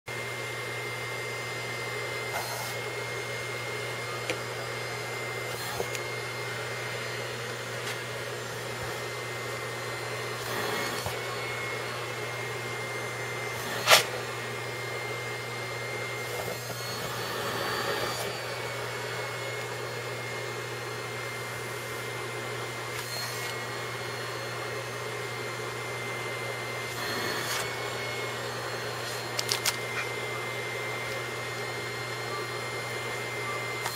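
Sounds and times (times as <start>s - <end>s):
vacuum cleaner running: 0.1s - 33.9s.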